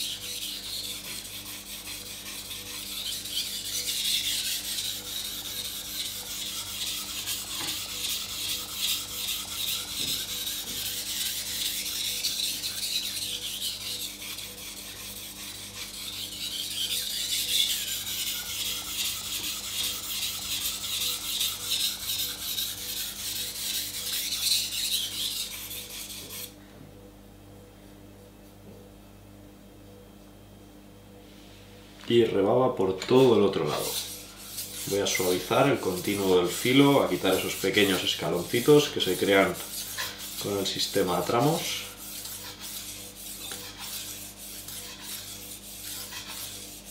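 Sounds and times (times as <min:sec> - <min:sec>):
knife scraping on whetstone: 0:00.0 - 0:26.6, 0:33.0 - 0:46.9.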